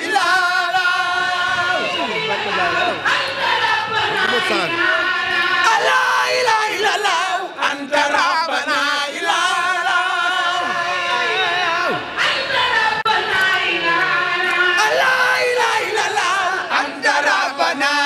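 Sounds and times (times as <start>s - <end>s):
women chanting in unison: 0.0s - 18.0s.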